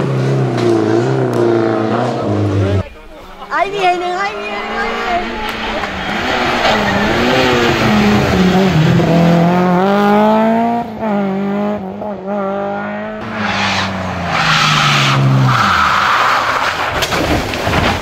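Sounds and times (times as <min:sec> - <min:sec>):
car engine accelerating: 0:00.0 - 0:02.9, 0:03.8 - 0:16.9.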